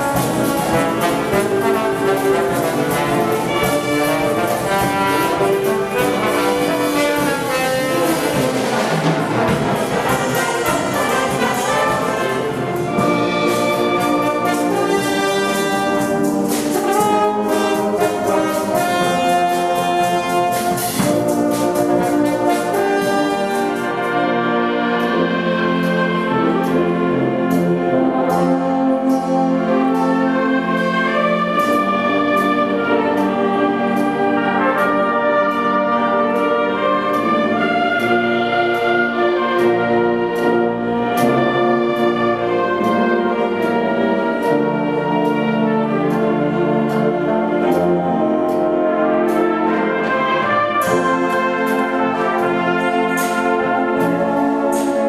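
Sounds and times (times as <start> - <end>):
percussion strikes: 0.0 - 55.0
wind band playing: 0.0 - 55.0.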